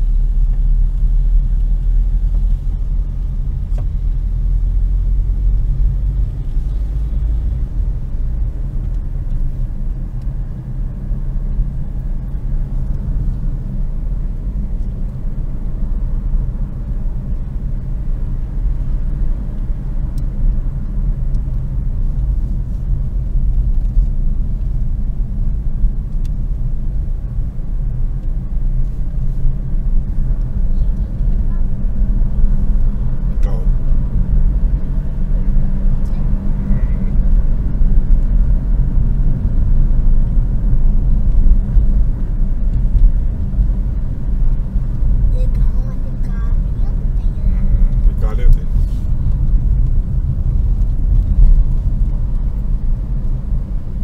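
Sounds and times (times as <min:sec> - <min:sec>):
car engine and tyres rumble: 0:00.0 - 0:54.0.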